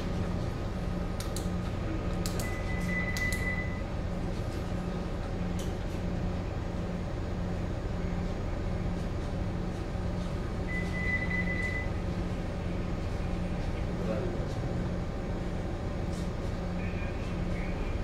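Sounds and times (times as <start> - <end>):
low pulsing machinery hum: 0.0 - 18.0.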